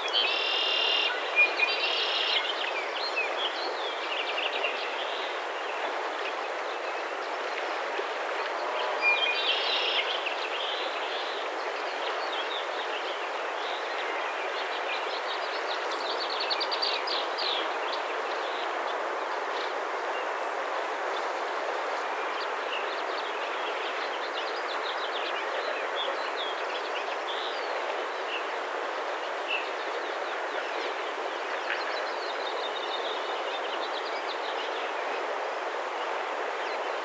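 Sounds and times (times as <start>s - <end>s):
rushing outdoor background noise: 0.0s - 37.0s.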